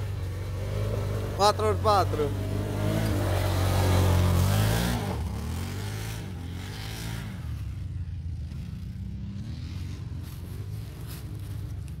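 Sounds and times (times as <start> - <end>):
quad bike engines revving: 0.0 - 12.0.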